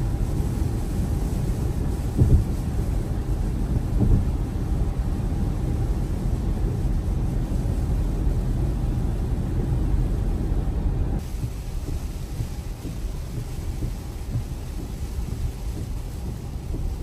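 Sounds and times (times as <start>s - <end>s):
rain on a car: 0.0s - 17.0s
tyre noise on wet road: 0.0s - 17.0s.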